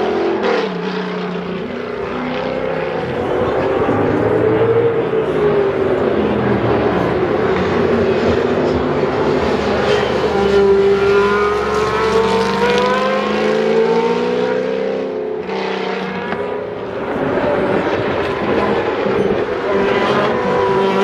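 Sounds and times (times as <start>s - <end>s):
racing car engine accelerating: 0.0s - 21.0s.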